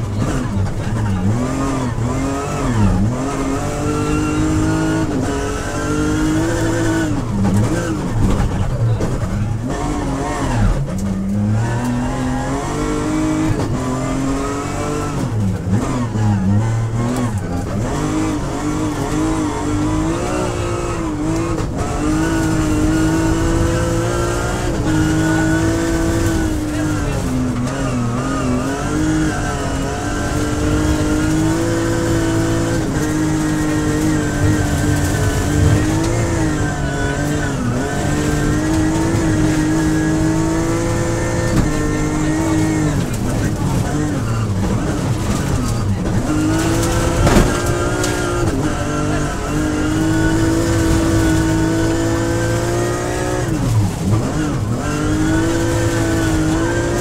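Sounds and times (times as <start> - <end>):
rally car engine accelerating: 0.0 - 57.0
tyre and road noise: 0.0 - 57.0.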